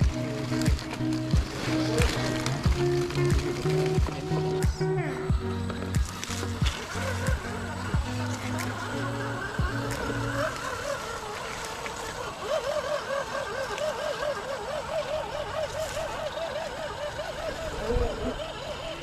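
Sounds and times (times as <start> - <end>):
electric motor and gear whine: 0.0 - 19.0.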